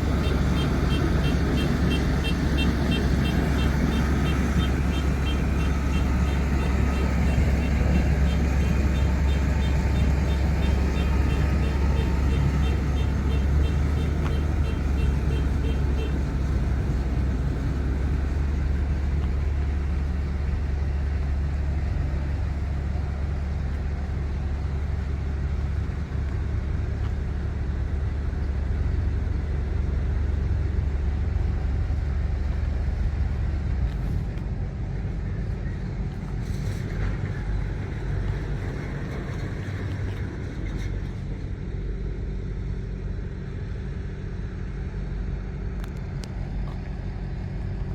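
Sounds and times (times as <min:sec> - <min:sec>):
harvester engine droning: 0:00.0 - 0:47.9.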